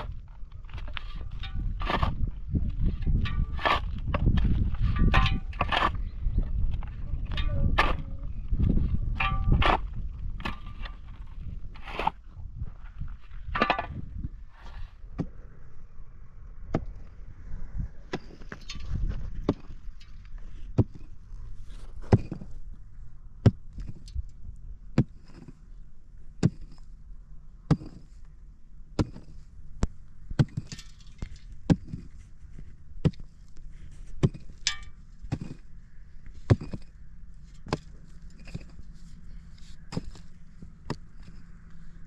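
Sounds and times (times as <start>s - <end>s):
low rumble: 0.0s - 42.0s.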